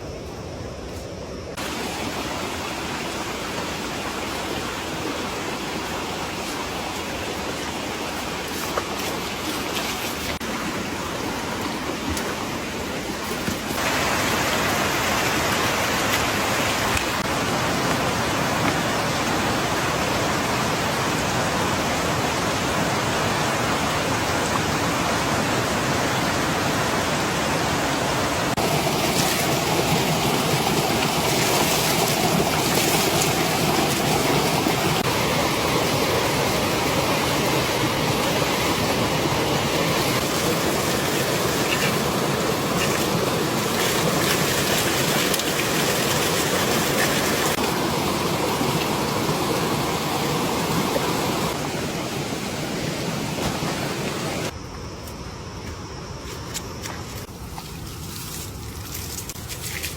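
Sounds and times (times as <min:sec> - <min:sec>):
rushing water: 0:01.5 - 0:54.6.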